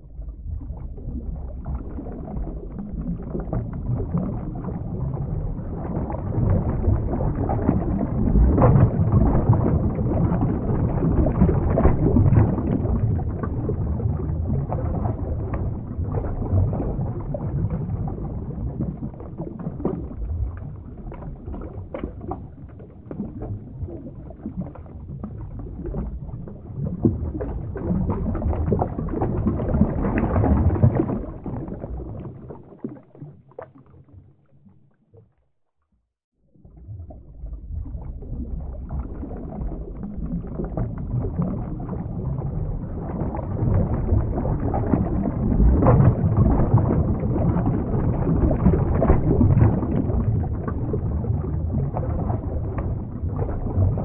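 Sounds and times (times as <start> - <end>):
muffled underwater rush: 0.0 - 54.0
bubbling pops: 0.1 - 34.2, 36.7 - 54.0.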